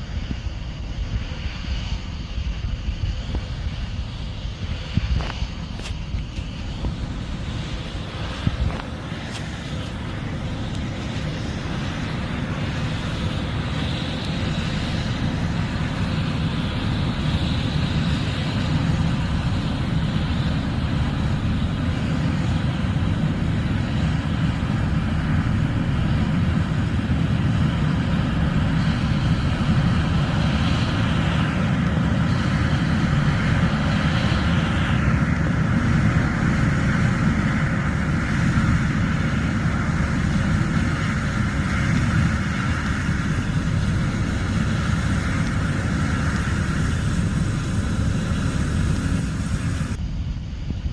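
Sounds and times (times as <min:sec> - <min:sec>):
combine harvester engine rumble: 0:00.0 - 0:50.8
threshing hiss: 0:00.0 - 0:50.9.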